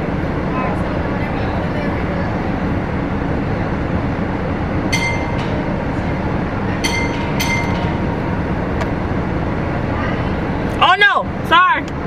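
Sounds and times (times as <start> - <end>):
machine rumbling: 0.0 - 12.0.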